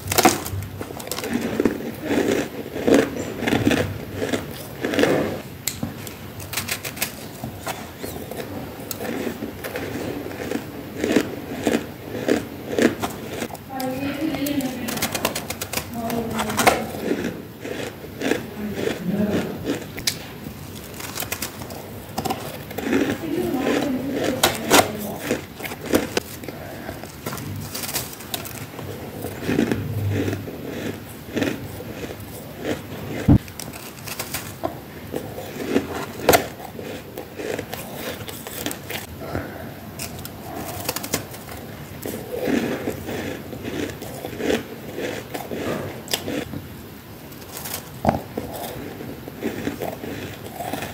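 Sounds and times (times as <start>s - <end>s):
crunching and chewing frost: 0.0s - 50.9s.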